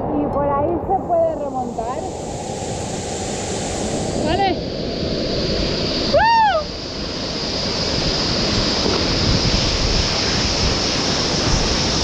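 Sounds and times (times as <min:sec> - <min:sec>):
waterfall rushing: 0:00.8 - 0:12.0.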